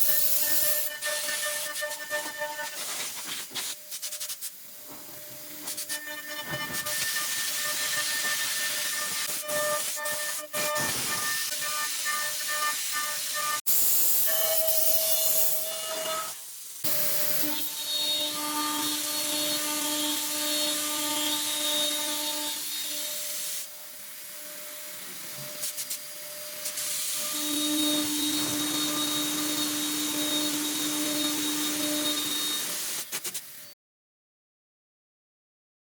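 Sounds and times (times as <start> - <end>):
wood lathe cutting hiss: 0.0 - 33.8.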